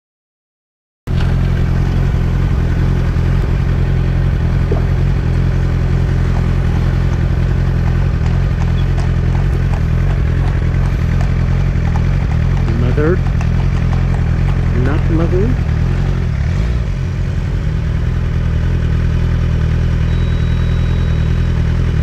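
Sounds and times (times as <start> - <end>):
quad bike engine droning: 1.1 - 22.0.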